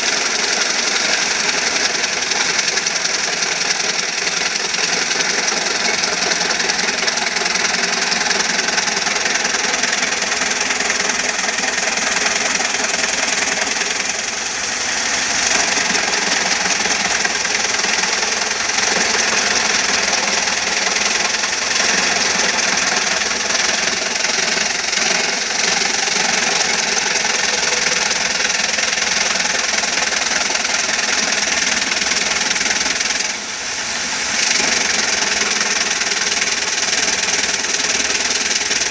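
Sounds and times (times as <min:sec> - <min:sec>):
woodworking machine engine running: 0:00.0 - 0:38.9.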